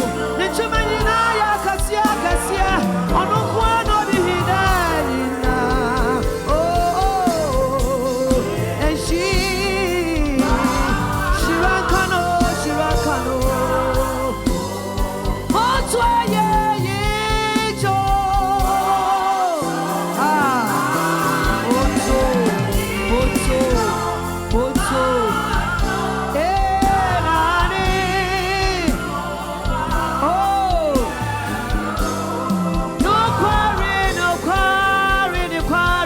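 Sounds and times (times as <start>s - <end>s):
band with bass and drums: 0.0s - 36.0s
person singing with vibrato: 0.0s - 36.0s.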